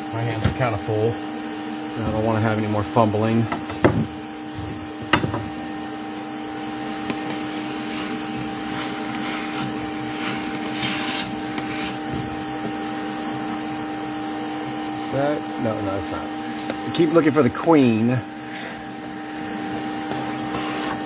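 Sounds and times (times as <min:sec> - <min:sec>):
vacuum motor humming: 0:00.0 - 0:21.0.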